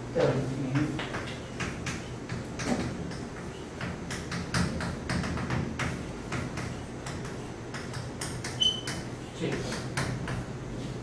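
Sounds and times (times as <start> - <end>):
chalk tapping on blackboard: 0.7 - 10.5.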